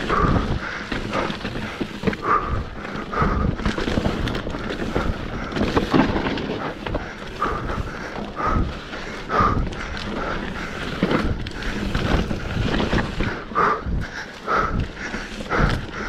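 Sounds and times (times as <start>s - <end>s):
bike knocking and rattling: 0.0s - 16.0s
bike tyres grinding over stones: 0.0s - 16.0s
wind rumble on microphone: 0.0s - 16.0s.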